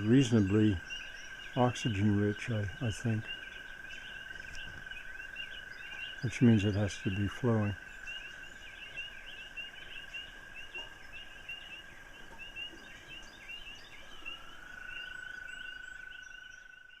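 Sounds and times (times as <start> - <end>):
frogs peeping: 0.0 - 17.0.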